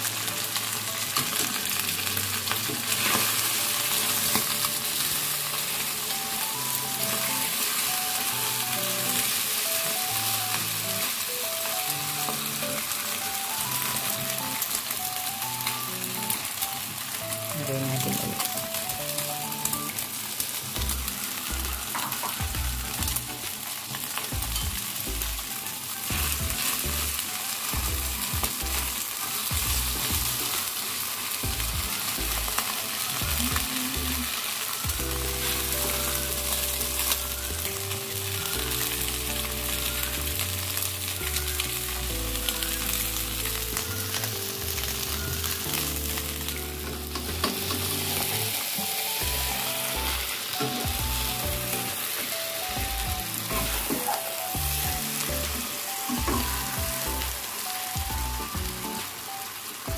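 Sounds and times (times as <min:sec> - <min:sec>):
omelette sizzling in a wok: 0:00.0 - 0:59.9
soft background music: 0:00.0 - 0:59.9.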